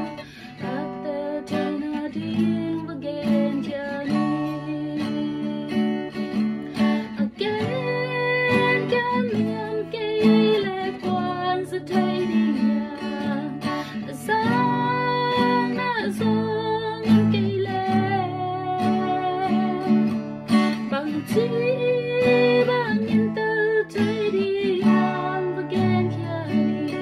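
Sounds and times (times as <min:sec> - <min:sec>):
acoustic guitar strumming: 0:00.0 - 0:27.0
woman singing: 0:00.0 - 0:27.0.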